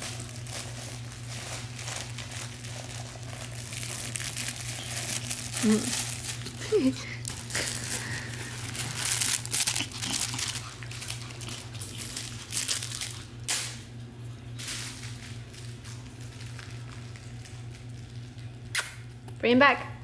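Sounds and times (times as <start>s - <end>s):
fabric toy crinkling: 0.0s - 13.4s, 14.6s - 18.4s.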